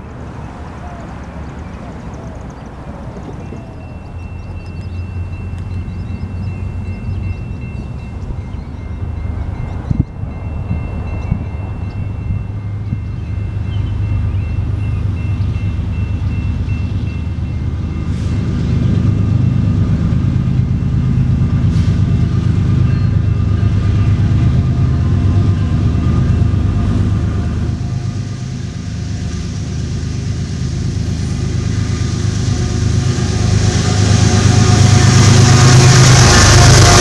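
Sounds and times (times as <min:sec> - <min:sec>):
diesel locomotive engines rumbling: 0:00.0 - 0:37.0.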